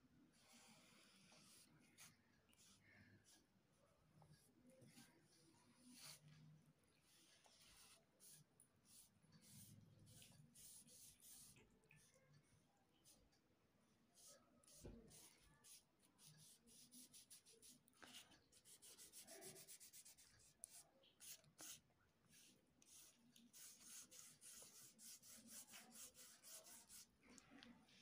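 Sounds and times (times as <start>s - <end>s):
crayon scratching on paper: 0.4s - 3.4s, 4.9s - 6.4s, 7.0s - 12.1s, 14.2s - 27.2s.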